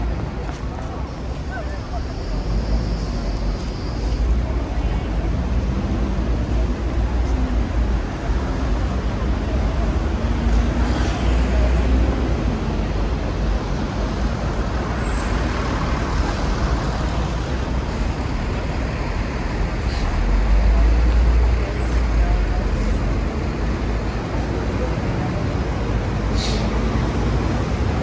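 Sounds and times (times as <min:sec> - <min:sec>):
city traffic noise: 0:00.0 - 0:28.0
heavy vehicle engine rumble: 0:00.0 - 0:28.0.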